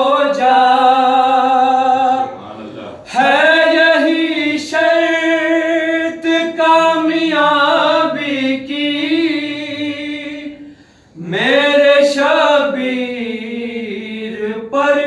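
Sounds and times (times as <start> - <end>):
lower male voice singing: 0.0 - 2.4, 3.1 - 15.0.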